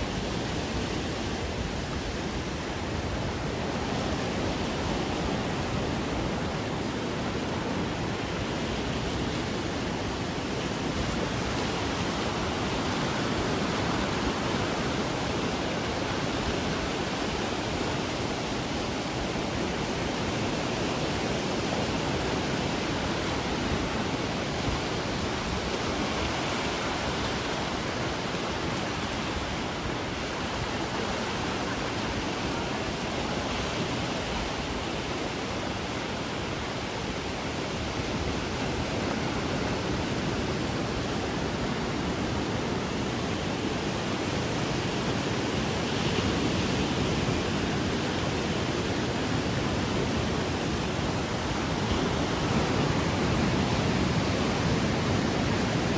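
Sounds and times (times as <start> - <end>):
ocean surf rushing: 0.0 - 55.9.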